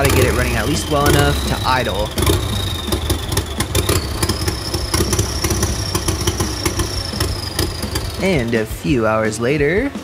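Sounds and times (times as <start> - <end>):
engine backfire pops: 0.0 - 8.7
high thin whine: 0.0 - 9.6
motorcycle engine idling unevenly: 0.0 - 10.0.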